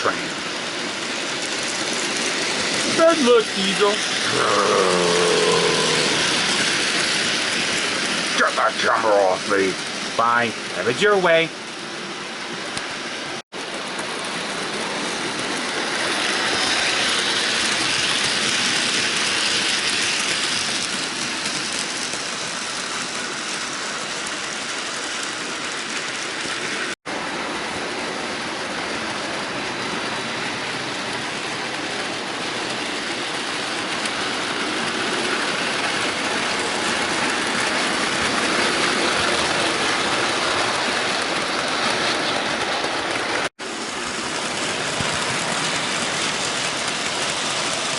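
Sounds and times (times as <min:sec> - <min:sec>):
model train running on track: 0:00.0 - 0:47.9.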